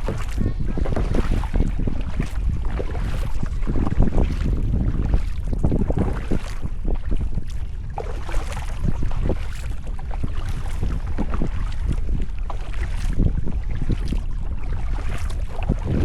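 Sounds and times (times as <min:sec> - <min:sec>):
paddle splashes and drips: 0:00.0 - 0:16.0
wind buffeting microphone: 0:00.0 - 0:16.0.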